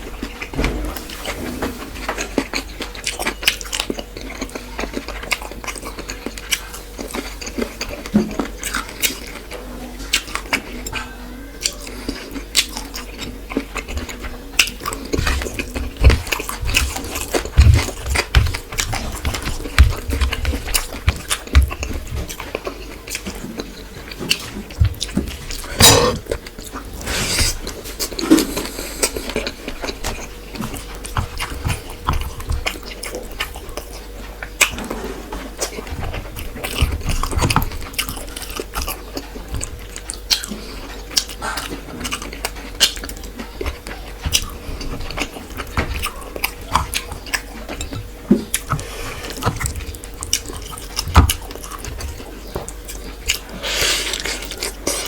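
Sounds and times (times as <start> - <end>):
chewing and lip smacking: 2.0 - 55.0.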